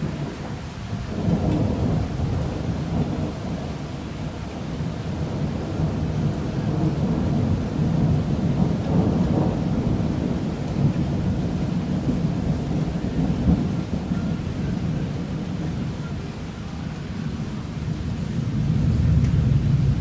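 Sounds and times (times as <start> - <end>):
rain hissing: 0.0 - 20.0
thunder rolling low rumble: 0.0 - 20.0.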